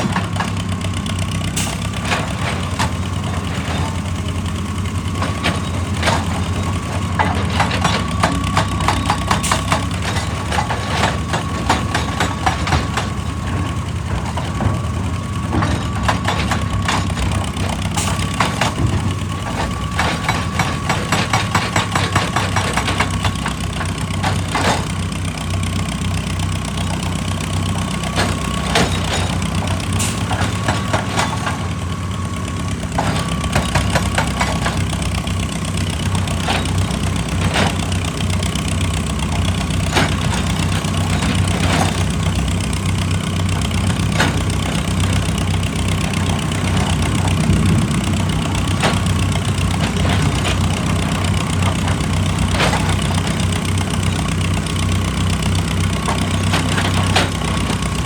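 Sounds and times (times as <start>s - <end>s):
diesel machinery running: 0.0s - 58.0s
knocks and clacks of rock: 0.0s - 58.0s.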